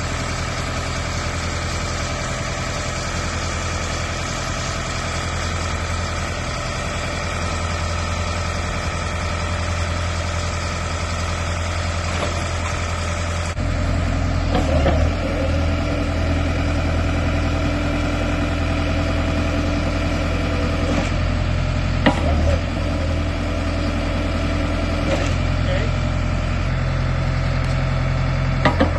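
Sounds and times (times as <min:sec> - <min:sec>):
drilling rig engine idling: 0:00.0 - 0:28.9.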